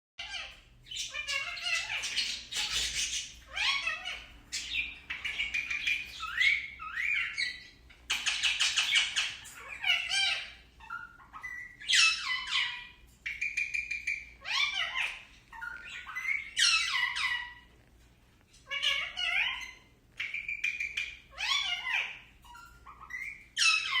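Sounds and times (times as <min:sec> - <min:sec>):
parakeet chirping and squawking: 0:00.2 - 0:24.0.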